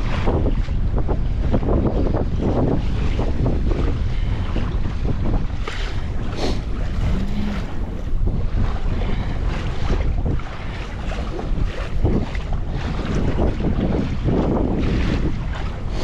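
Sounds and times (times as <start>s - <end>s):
water lapping at a kayak: 0.0s - 16.0s
wind buffeting microphone: 0.0s - 16.0s.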